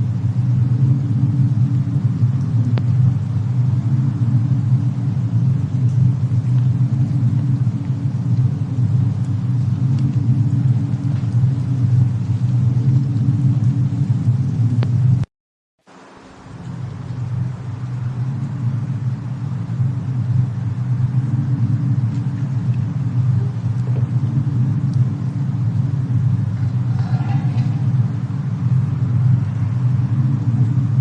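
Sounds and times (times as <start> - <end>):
low rumble of snowstorm: 0.0 - 15.3, 15.9 - 31.0
faint fire crackling: 0.0 - 31.0.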